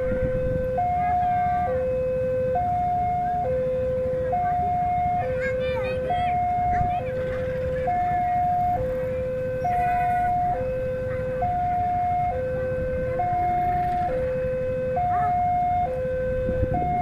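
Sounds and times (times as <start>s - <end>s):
train rumbling: 0.0s - 1.7s, 4.0s - 17.0s
two-tone crossing alarm: 0.0s - 17.0s.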